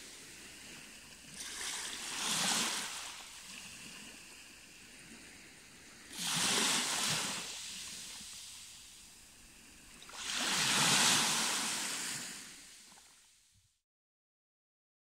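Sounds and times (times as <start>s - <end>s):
waves washing over rocks: 0.0s - 13.1s.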